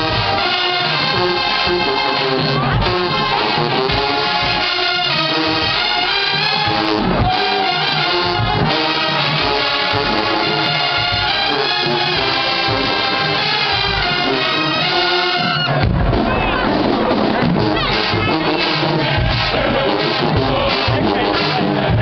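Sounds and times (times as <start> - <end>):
marching brass band playing: 0.0 - 22.0.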